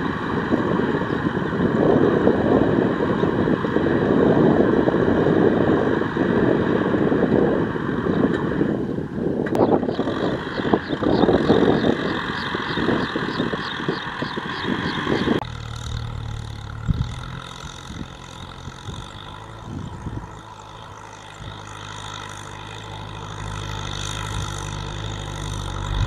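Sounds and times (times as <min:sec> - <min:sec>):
tractor engine running: 0:00.0 - 0:26.0
wind buffeting microphone: 0:00.0 - 0:26.0.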